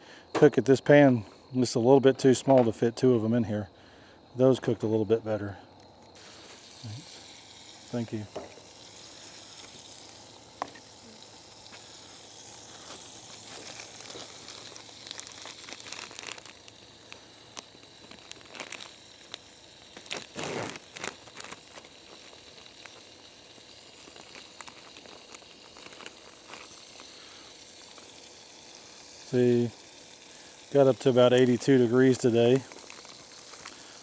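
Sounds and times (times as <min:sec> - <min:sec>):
sandwiches sizzling in butter: 0:06.0 - 0:34.0.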